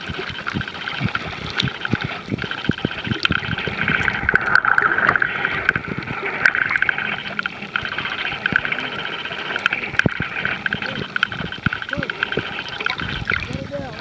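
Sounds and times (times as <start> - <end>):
sharp clicks: 0.0 - 13.6
bubbling gurgles: 0.0 - 14.0
underwater crackling hiss: 0.0 - 14.0.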